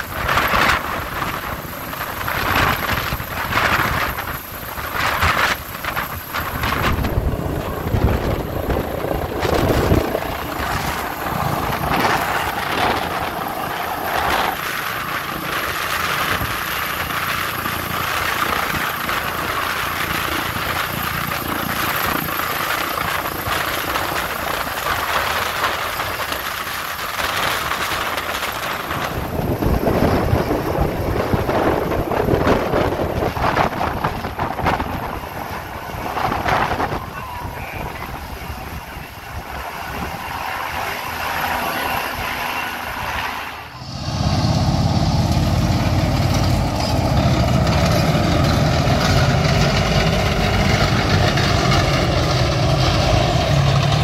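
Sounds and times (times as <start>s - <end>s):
helicopter hovering overhead: 0.0s - 54.0s.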